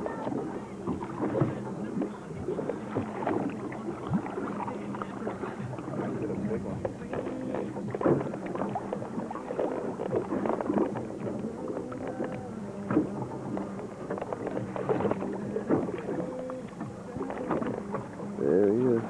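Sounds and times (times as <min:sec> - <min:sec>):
boat engine idling: 0:00.0 - 0:19.0
water slapping against hull: 0:00.0 - 0:19.0.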